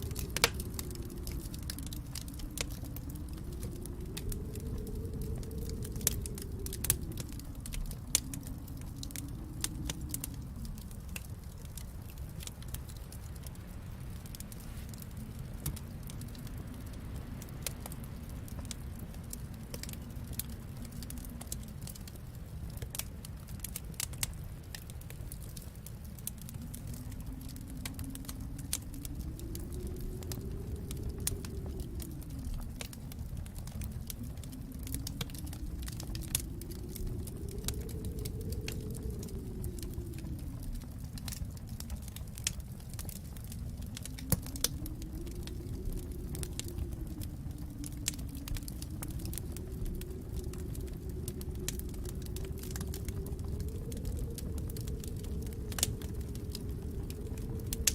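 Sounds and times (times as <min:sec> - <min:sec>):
low rumble: 0:00.0 - 0:57.9
wood fire crackling: 0:00.0 - 0:57.9.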